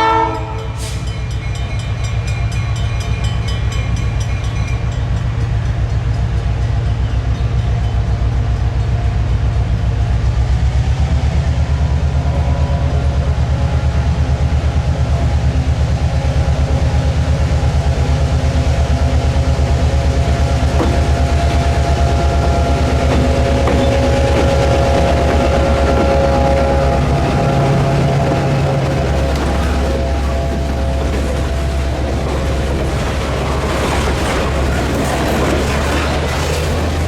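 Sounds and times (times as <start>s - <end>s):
diesel locomotive engine throbbing: 0.0s - 37.0s.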